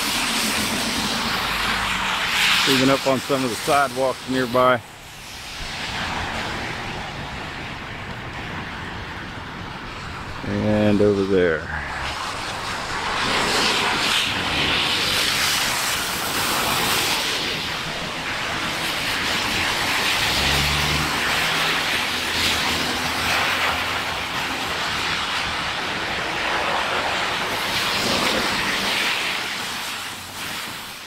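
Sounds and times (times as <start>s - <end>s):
tyres hissing on wet road: 0.0s - 31.0s.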